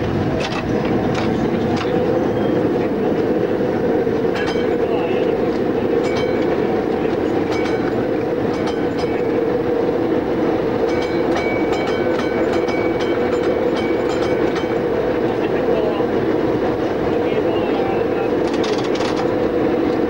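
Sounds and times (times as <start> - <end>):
tram running noise: 0.0 - 20.0
wheels clicking over rail joints: 0.0 - 20.0.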